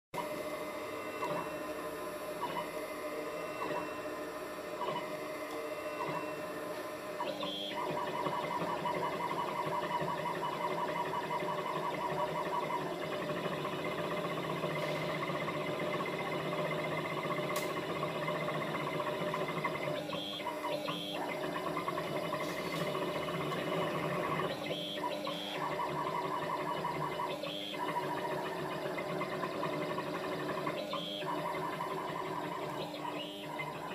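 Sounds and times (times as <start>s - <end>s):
engraving machine motor whine: 0.2s - 33.9s.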